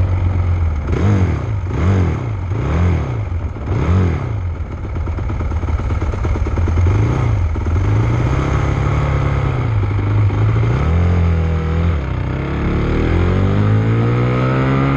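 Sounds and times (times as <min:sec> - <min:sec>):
motocross bike engine revving: 0:00.0 - 0:14.9.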